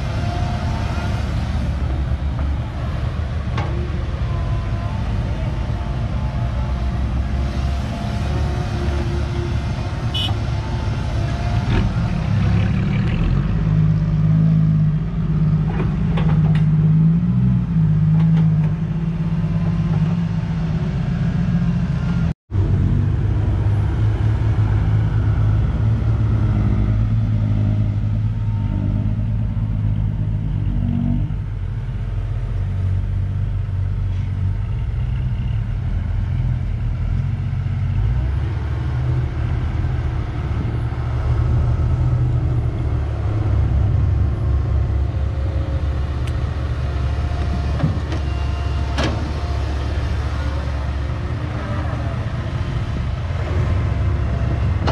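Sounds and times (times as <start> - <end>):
excavator diesel engine running: 0.0 - 14.0, 15.0 - 54.9.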